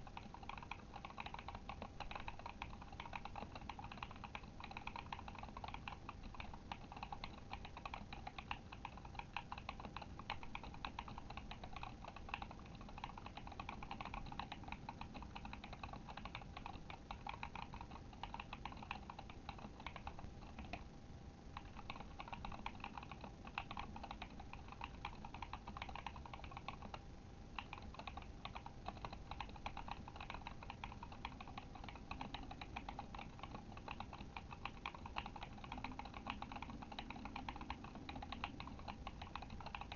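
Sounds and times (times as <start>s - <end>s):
fast typing on mechanical keyboard: 0.0s - 20.8s, 21.6s - 39.9s.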